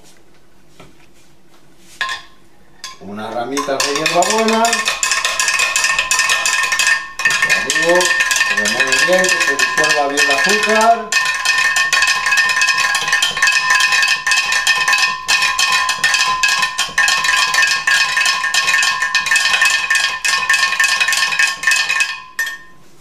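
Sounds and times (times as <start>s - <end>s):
spoon clinking in glass jug: 2.0s - 22.8s
glass ringing tone: 2.0s - 22.9s.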